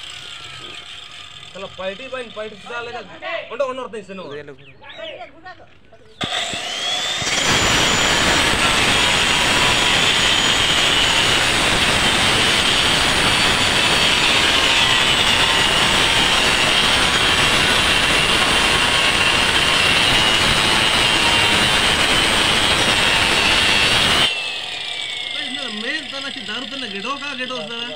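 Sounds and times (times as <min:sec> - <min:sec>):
blade grinding through bamboo: 0:00.0 - 0:02.8, 0:06.2 - 0:27.9
circular cutter whining: 0:00.0 - 0:03.1, 0:06.2 - 0:27.9.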